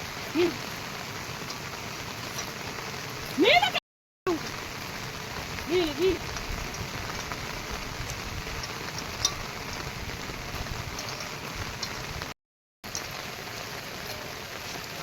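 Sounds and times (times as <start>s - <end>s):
heavy rain hissing: 0.0s - 15.0s
water drips: 0.0s - 15.0s.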